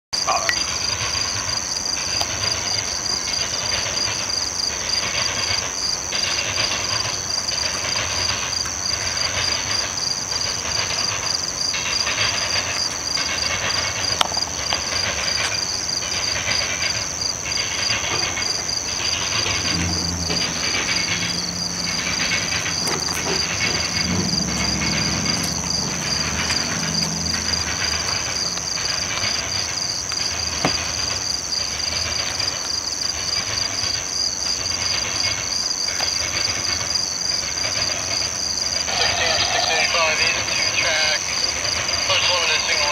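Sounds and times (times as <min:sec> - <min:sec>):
crickets chirping: 0:00.2 - 0:42.9
train wheels clattering over crossing: 0:00.2 - 0:42.9.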